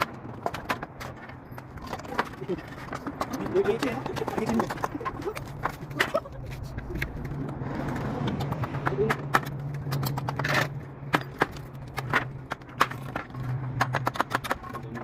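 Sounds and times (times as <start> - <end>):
sharp knocks and clicks: 0.0 - 6.0, 7.0 - 15.0.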